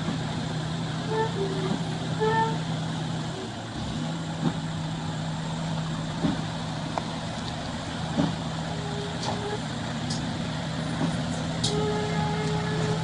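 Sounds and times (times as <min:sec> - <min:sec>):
construction machine engine running: 0:00.0 - 0:13.0.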